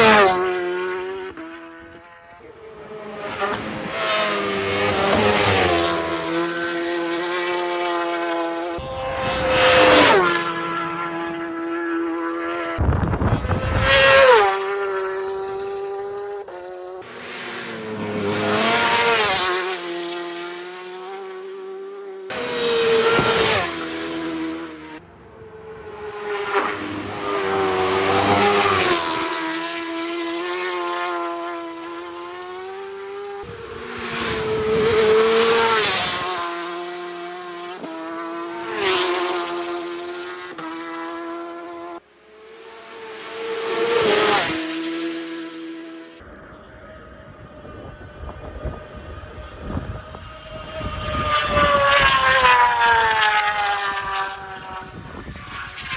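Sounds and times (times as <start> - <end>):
racing motorcycles passing: 0.0 - 55.9.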